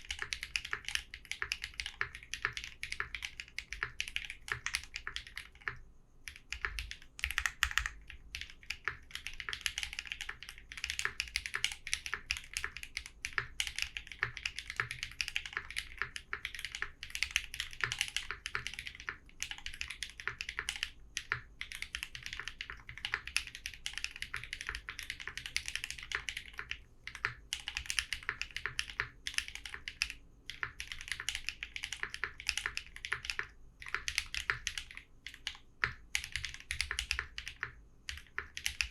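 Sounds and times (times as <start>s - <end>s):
keyboard keystroke clicks: 0.0s - 38.9s.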